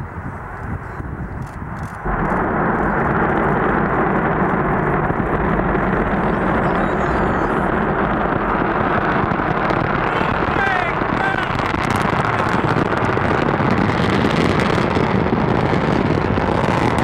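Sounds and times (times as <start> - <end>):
rocket engines roaring: 0.0 - 17.0.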